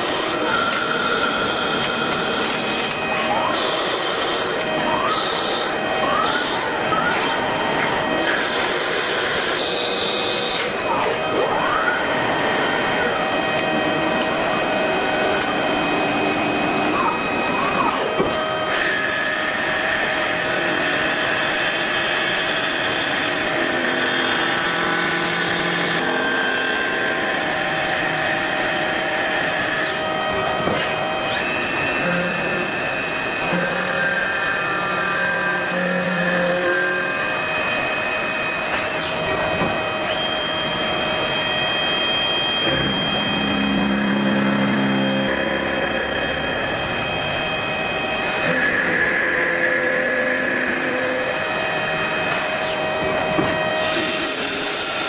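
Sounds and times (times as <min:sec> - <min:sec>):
machining noise: 0:00.0 - 0:30.4, 0:31.2 - 0:53.0
lathe high-pitched whine: 0:00.0 - 0:55.0.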